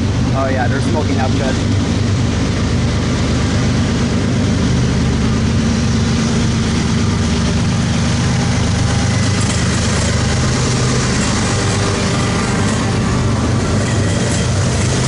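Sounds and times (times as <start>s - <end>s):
diesel locomotive engine drone: 0.0s - 15.0s
rail noise: 0.0s - 15.0s.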